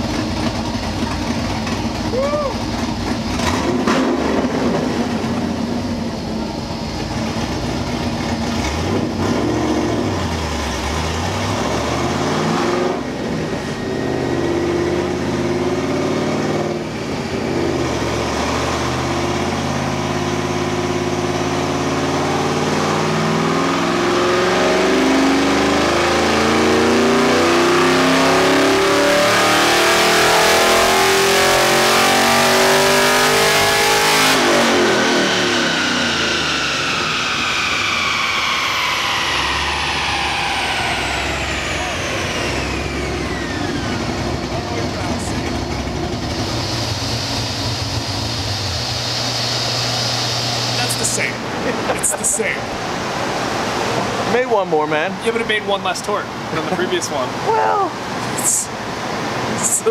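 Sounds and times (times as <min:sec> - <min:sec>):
car engine revving on a dyno: 0:00.0 - 0:54.6.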